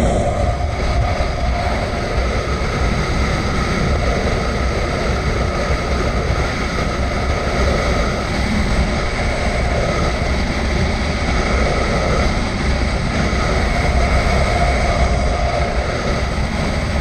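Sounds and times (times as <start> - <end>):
road noise: 0.0 - 17.0
wind rush: 0.0 - 17.0.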